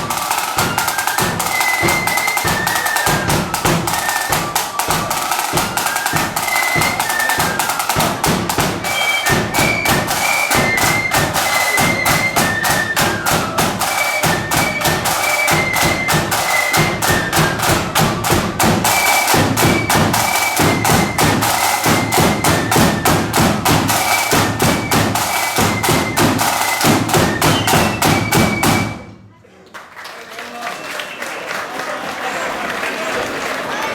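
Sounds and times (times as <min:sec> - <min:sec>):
flutes playing melody: 0:00.0 - 0:29.2
snare drum rolls: 0:00.0 - 0:29.2.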